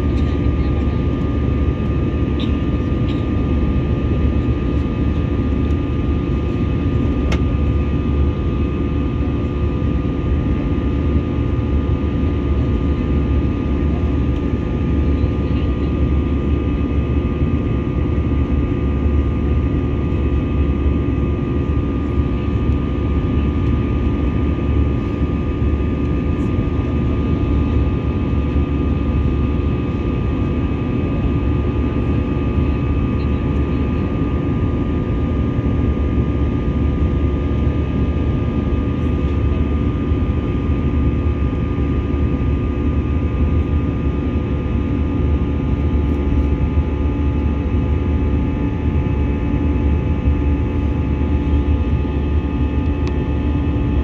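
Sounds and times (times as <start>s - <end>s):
aircraft engines and rushing air: 0.0s - 54.0s.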